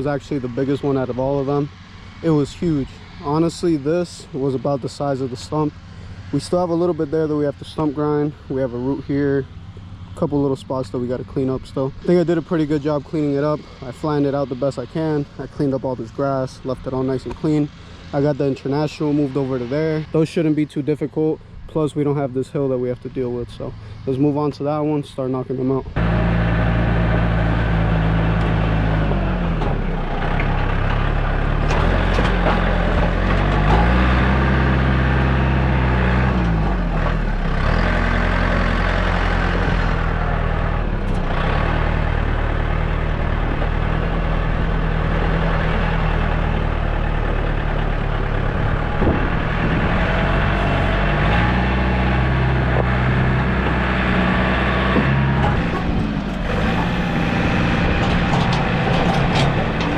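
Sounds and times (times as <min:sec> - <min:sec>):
heavy machinery engine running: 0:00.0 - 0:20.3, 0:23.3 - 0:59.9.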